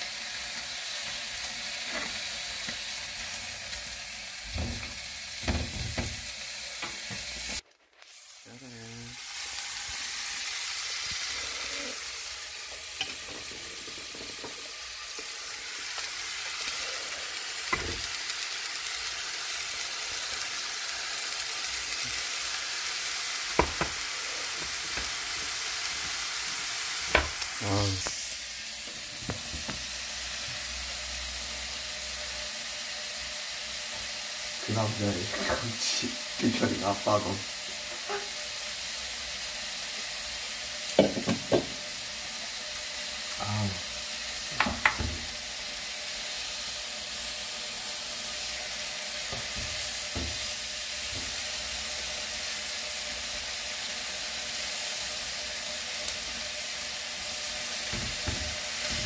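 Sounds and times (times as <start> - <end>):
meat sizzling in a frying pan: 0.0 - 59.0.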